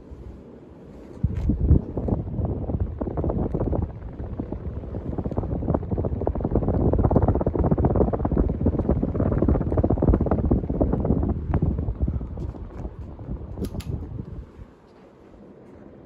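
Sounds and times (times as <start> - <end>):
fan wind buffeting microphone: 0.0 - 16.0.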